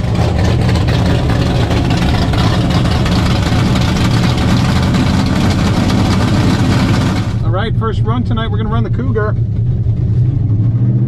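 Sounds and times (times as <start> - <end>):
racing car engine idling: 0.0 - 10.6.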